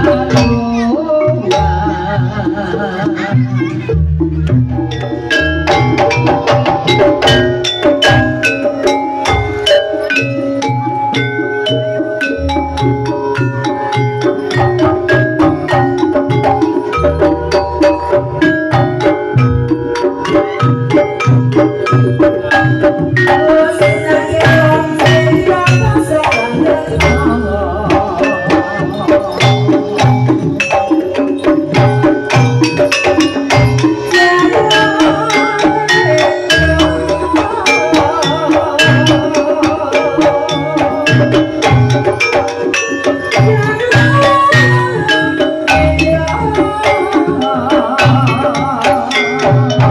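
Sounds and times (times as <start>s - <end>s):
drum strokes: 0.0s - 49.9s
metal keyed percussion ringing: 4.7s - 49.9s.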